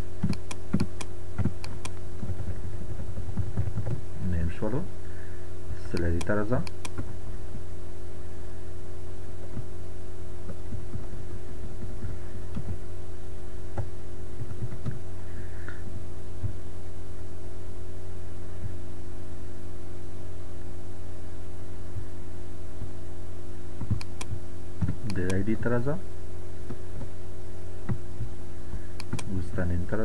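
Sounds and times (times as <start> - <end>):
electrical mains hum: 0.0 - 30.0.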